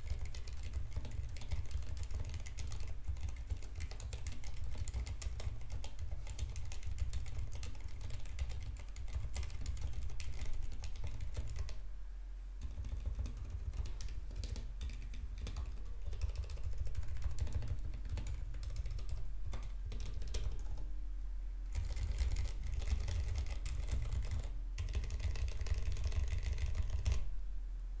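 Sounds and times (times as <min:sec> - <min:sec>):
typing on mechanical keyboard: 0:00.0 - 0:11.8, 0:12.6 - 0:20.9, 0:21.7 - 0:27.2.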